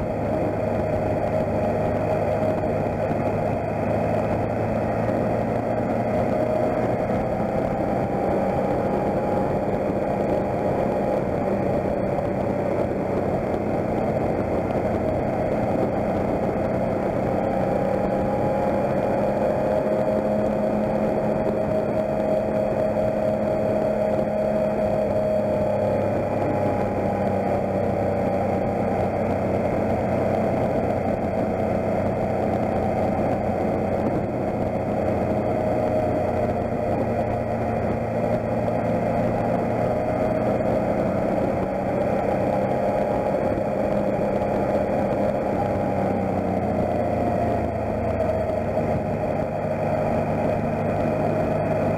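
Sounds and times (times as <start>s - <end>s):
motorcycle engine running: 0.0s - 51.9s
tyres on wet road: 0.0s - 51.9s.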